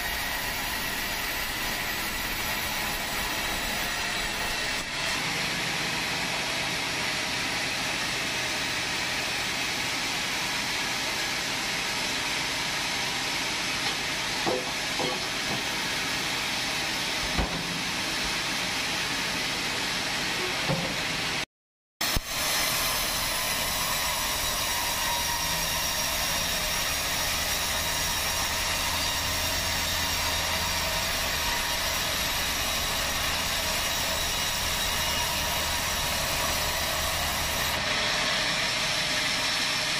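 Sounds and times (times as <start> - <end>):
band saw running with whine: 0.0 - 21.4, 22.0 - 39.9.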